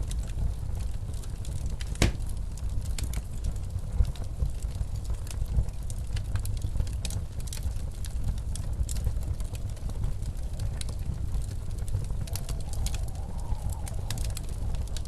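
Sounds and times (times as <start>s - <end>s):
blizzard wind rumble: 0.0s - 15.0s
wood fire crackling: 0.0s - 15.0s.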